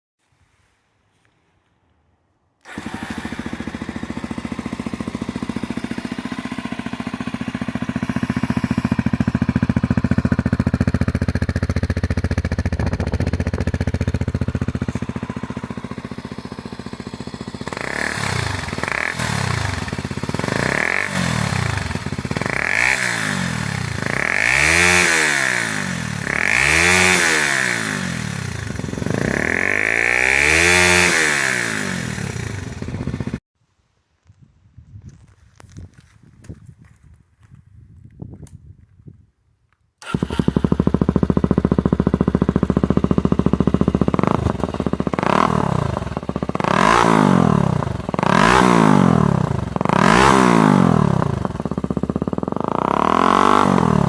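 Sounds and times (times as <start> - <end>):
motorcycle engine revving: 2.6 - 33.4, 40.0 - 54.0.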